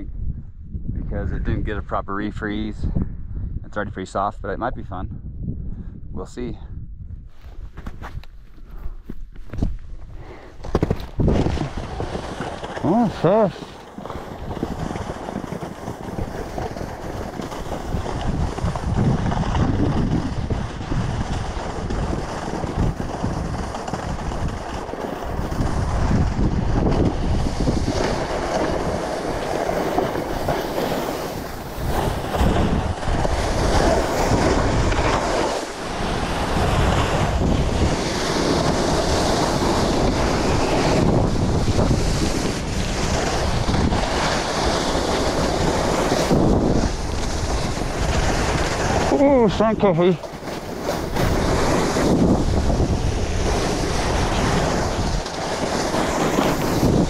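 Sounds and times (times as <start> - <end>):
wind on microphone: 0.0 - 57.0
snowboard scraping over snow: 9.6 - 57.0.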